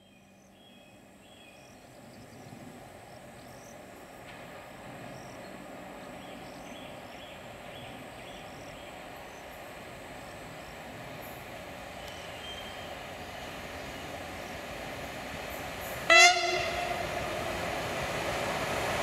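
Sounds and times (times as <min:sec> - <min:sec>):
electric locomotive rumble on rails: 0:00.0 - 0:19.0.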